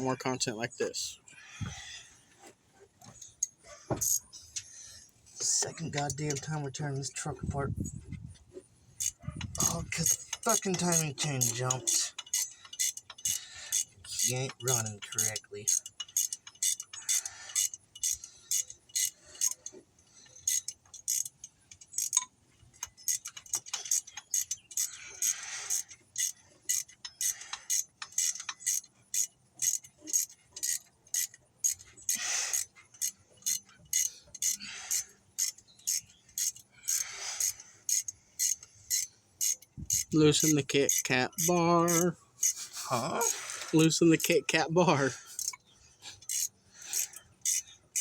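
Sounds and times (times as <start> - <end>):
steady clicking: 8.3 - 48.0.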